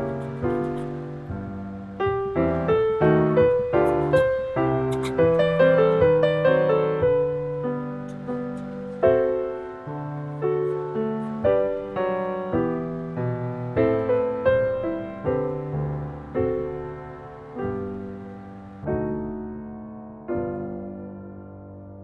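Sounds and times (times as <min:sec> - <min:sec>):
soft piano notes: 0:00.0 - 0:22.0.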